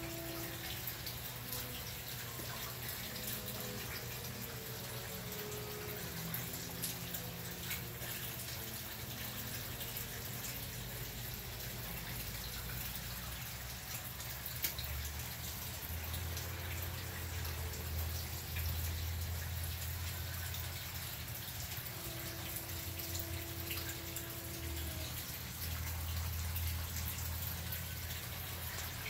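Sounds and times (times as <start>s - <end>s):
pond water trickling: 0.0s - 29.0s
water drips: 0.0s - 29.0s.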